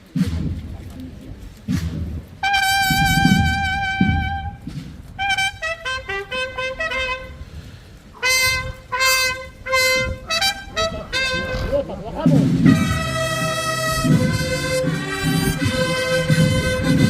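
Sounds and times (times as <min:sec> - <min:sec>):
solo trumpet melody: 0:02.4 - 0:11.8, 0:12.6 - 0:17.0.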